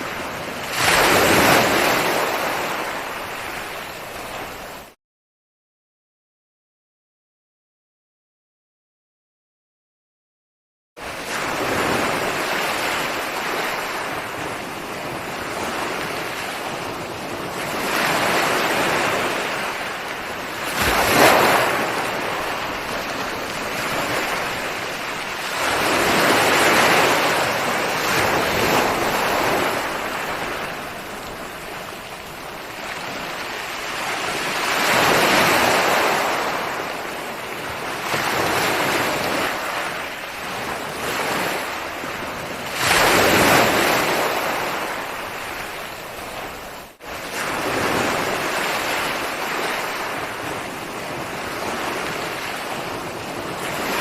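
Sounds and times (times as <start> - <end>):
ocean waves breaking on shore: 0.0 - 5.0, 11.0 - 54.0.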